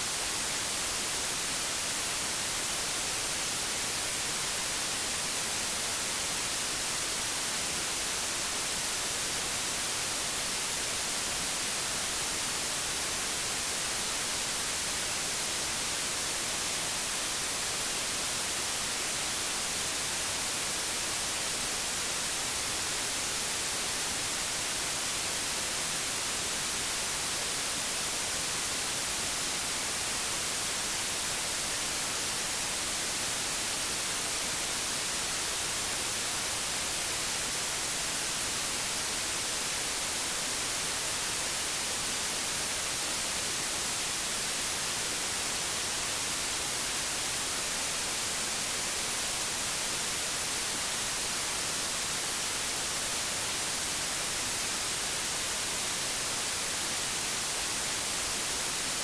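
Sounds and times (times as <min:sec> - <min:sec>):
television static hiss: 0:00.0 - 0:59.0.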